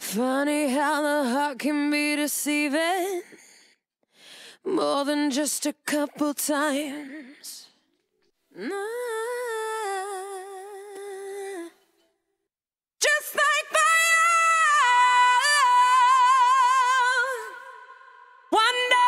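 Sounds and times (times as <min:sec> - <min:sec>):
woman singing: 0:00.0 - 0:03.6, 0:04.5 - 0:07.8, 0:08.5 - 0:12.0, 0:13.0 - 0:19.0.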